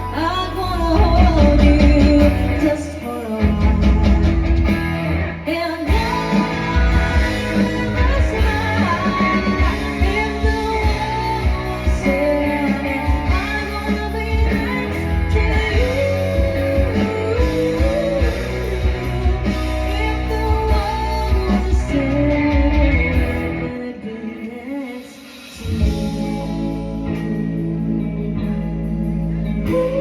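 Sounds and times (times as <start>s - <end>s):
live band music: 0.0s - 30.0s.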